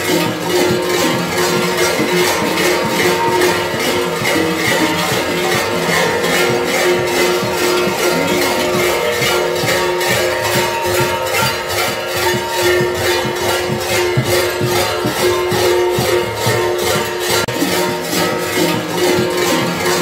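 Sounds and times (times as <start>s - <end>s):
large bells clanging: 0.0s - 20.0s.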